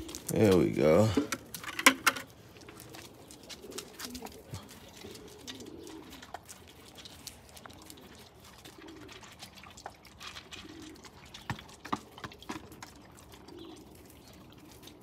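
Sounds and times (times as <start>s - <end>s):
doves cooing: 0.0s - 15.0s
dogs lapping water: 2.2s - 15.0s.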